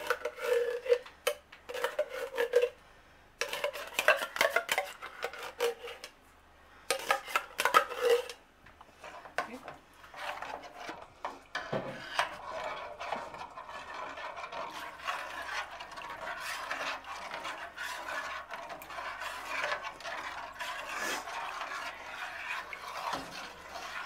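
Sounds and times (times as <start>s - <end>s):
spoon stirring thick soup: 0.0s - 2.8s, 3.4s - 6.2s, 6.9s - 24.0s.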